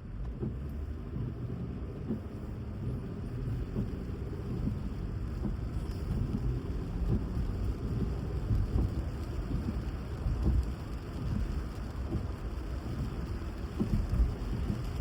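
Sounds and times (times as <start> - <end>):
engine and tyres on wet road: 0.0 - 15.0
rain taps: 0.0 - 15.0.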